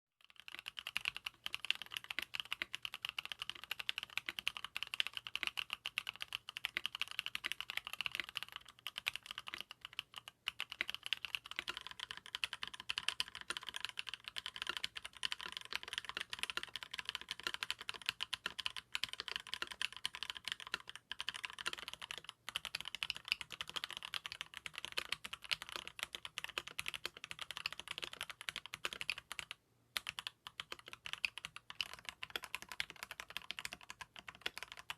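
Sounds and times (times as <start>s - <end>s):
fast typing on mechanical keyboard: 0.2s - 34.9s.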